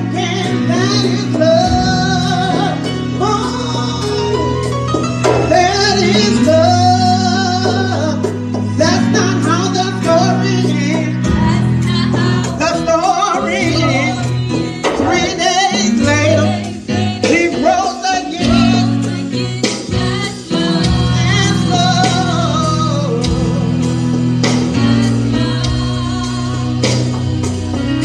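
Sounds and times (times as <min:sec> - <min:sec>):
gospel singing with live band: 0:00.0 - 0:28.0.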